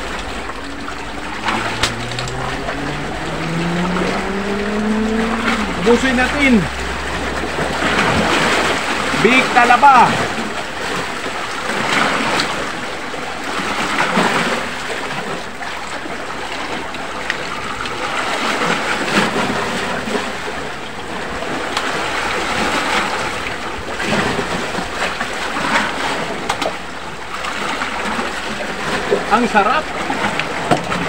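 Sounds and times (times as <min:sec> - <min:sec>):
waves washing against rocky shore: 0:00.0 - 0:31.0.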